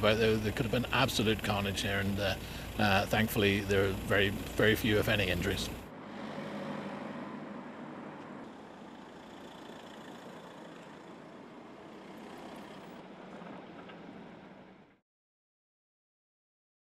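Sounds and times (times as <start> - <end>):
street noise: 0.0 - 15.0
vehicle engines humming: 0.0 - 15.0.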